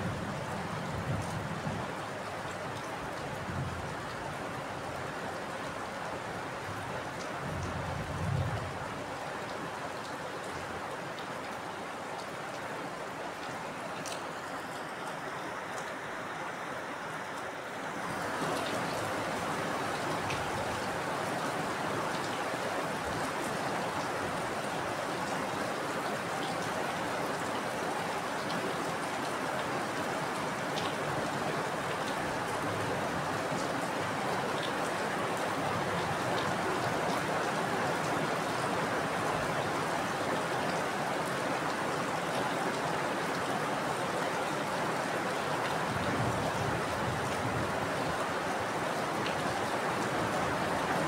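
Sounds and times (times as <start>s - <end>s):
heavy rainfall: 0.0s - 51.0s.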